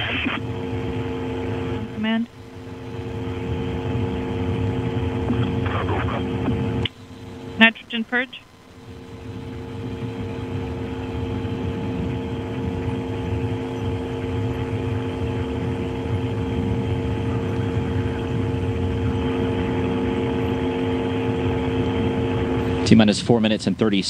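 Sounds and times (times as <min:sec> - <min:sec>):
gas purge rushing roar: 0:00.0 - 0:07.7, 0:08.5 - 0:23.8
steady hum: 0:00.0 - 0:24.0.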